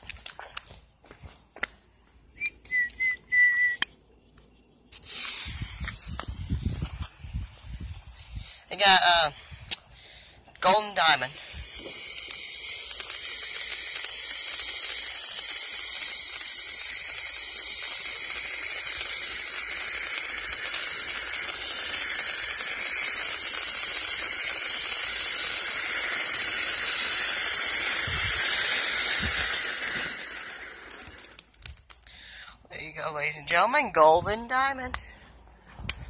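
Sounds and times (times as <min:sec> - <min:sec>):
firework fountain hissing: 0:04.9 - 0:33.9.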